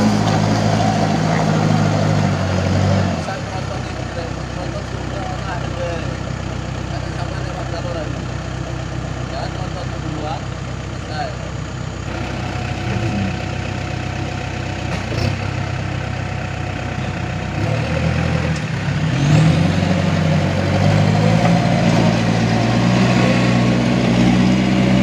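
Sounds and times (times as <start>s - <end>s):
diesel engines running: 0.0s - 25.0s.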